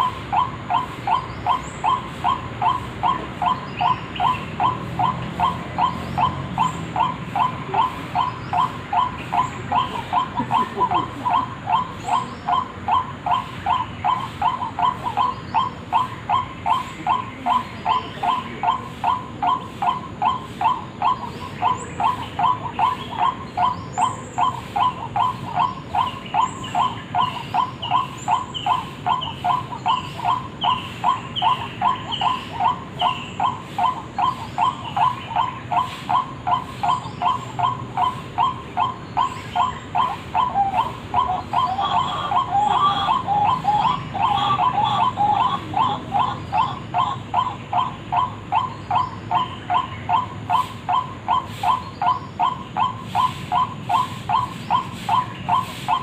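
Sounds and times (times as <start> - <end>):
high bird chirps: 0.0 - 56.0
waterhen call: 0.0 - 56.0.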